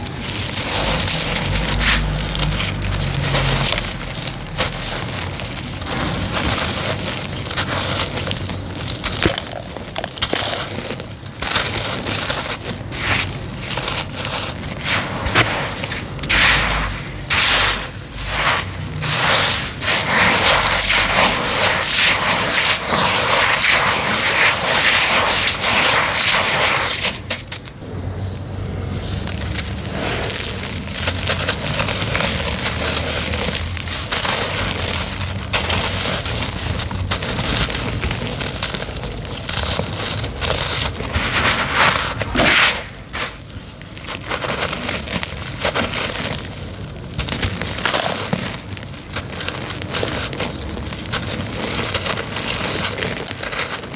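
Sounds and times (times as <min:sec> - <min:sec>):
cement crumbling and crunching: 0:00.0 - 0:53.9.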